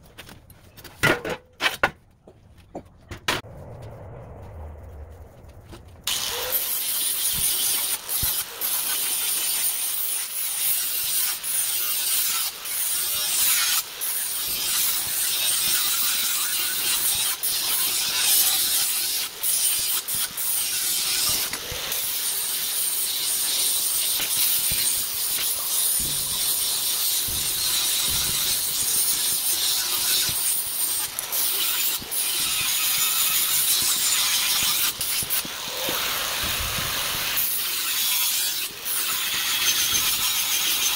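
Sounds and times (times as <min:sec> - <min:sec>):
angle grinder grinding steel: 0:06.1 - 0:40.9.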